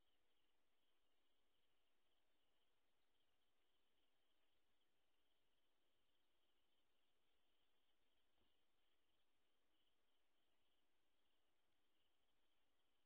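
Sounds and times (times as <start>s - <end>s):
high insect hum: 0.0s - 13.0s.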